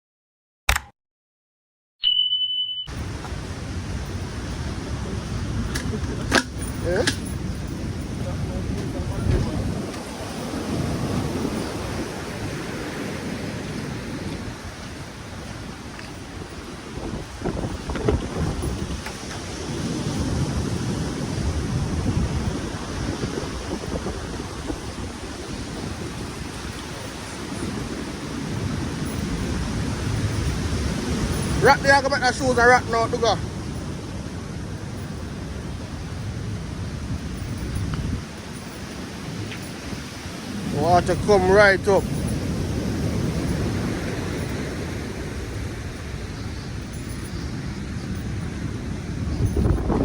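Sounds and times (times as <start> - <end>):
wind buffeting microphone: 2.9 - 50.0.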